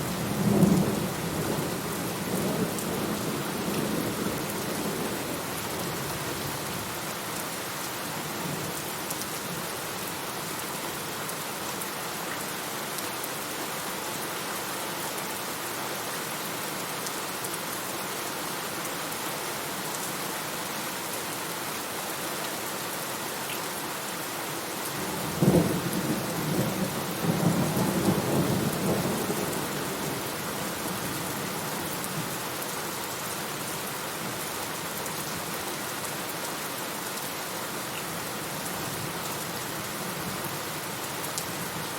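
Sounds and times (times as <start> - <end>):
rain falling: 0.0 - 41.9.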